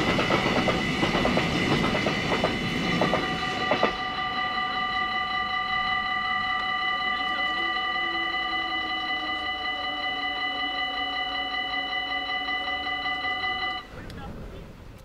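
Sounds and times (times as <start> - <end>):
level crossing warning bell: 0.0 - 14.0
freight train wheels clicking: 0.0 - 14.3.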